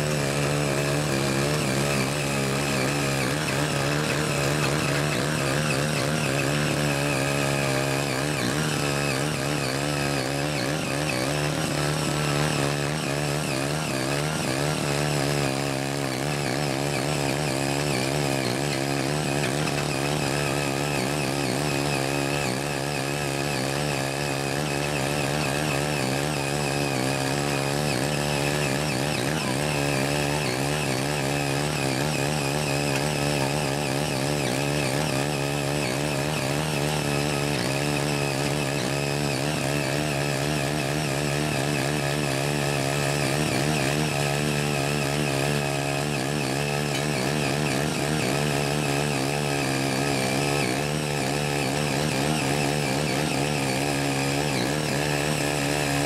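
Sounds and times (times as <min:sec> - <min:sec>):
mini tiller engine running: 0:00.0 - 0:56.0.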